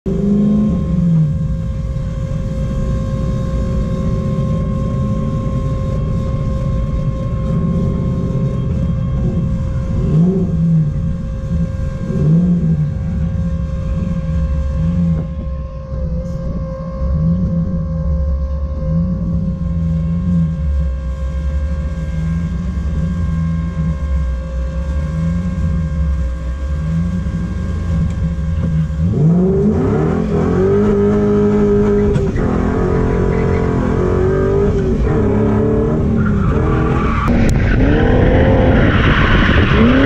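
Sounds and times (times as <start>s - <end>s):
car engine revving: 0.0s - 40.0s
steady high electric pump whine: 0.1s - 40.0s.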